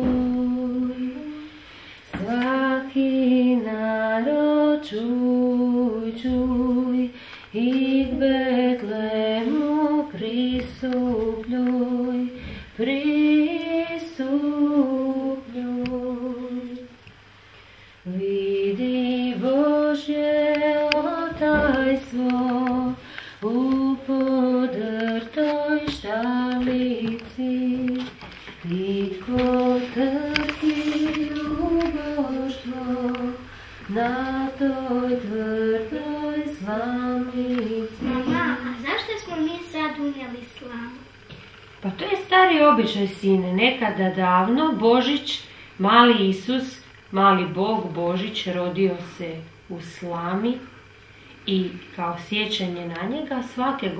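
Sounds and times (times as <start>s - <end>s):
woman singing unaccompanied: 0.0s - 17.2s, 18.0s - 38.8s, 41.8s - 50.7s.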